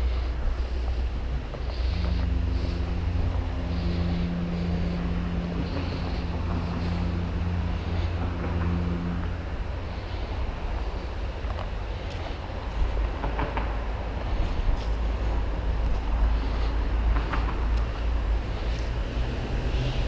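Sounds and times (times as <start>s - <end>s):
droning hum: 0.0s - 20.0s
engine rumbling: 0.0s - 20.0s.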